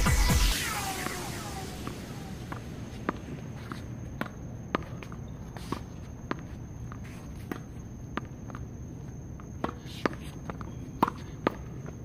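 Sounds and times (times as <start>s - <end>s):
footsteps on court: 1.0s - 12.0s
tennis ball knocks and bounces: 1.8s - 12.0s.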